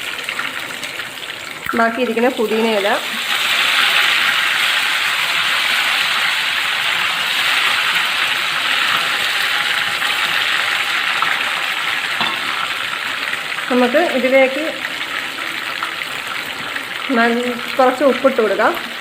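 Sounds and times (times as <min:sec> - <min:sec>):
leaves sizzling in hot oil: 0:00.0 - 0:19.0.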